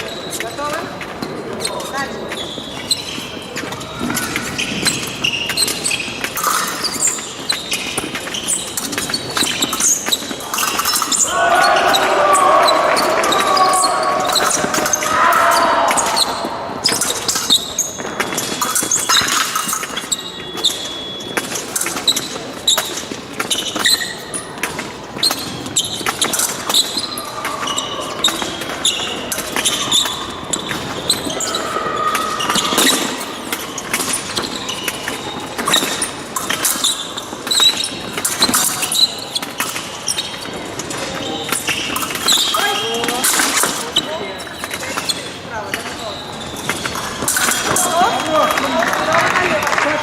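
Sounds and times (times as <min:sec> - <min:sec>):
shoes squeaking and stamping: 0:00.0 - 0:50.0.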